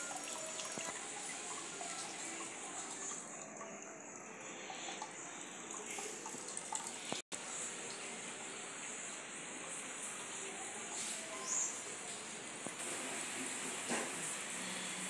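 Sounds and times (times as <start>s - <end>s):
running water trickling: 0.0s - 13.4s.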